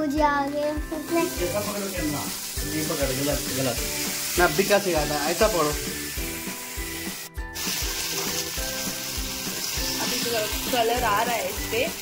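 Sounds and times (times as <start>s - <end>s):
background music with steady beat: 0.0s - 12.0s
chicken sizzling in oil: 0.4s - 12.0s.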